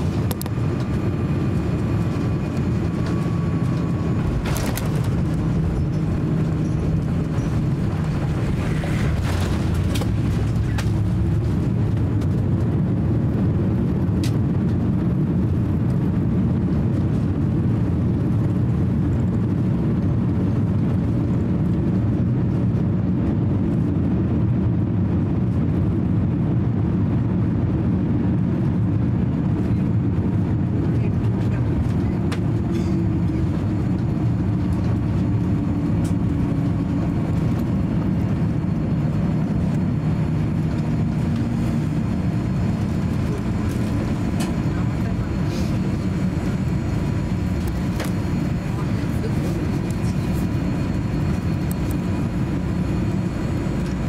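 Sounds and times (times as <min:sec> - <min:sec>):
airliner cabin roar: 0:00.0 - 0:54.0.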